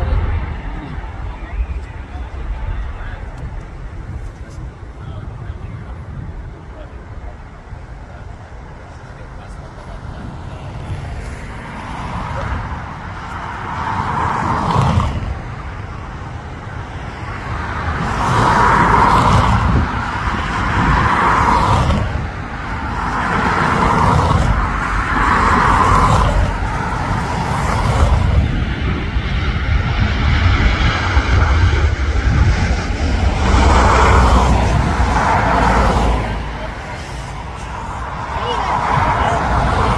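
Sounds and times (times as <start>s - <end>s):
engine noise: 0.0s - 39.9s
wind buffeting microphone: 0.0s - 39.9s.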